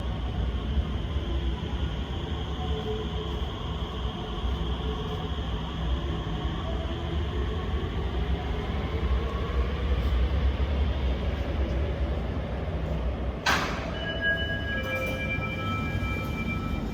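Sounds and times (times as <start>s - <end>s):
electric metro train rumbling: 0.0s - 16.9s.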